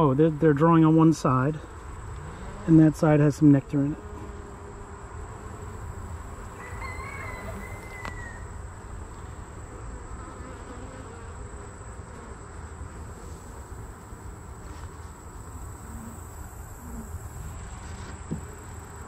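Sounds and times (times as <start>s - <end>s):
bees buzzing: 0.4s - 19.0s.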